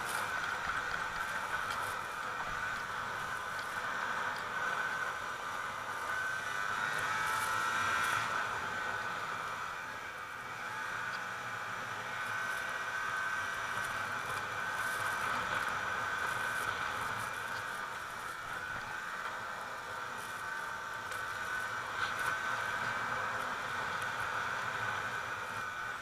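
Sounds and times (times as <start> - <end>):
snowmobile engine running: 0.0 - 26.0
wind and track noise: 0.0 - 26.0.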